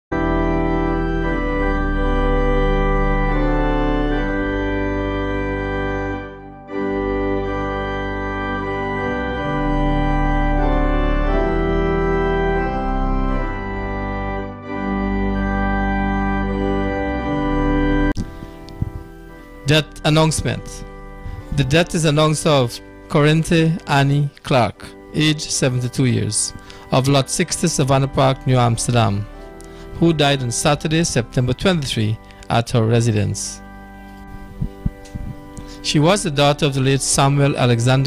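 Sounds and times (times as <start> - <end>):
slow organ music: 0.1 - 38.0.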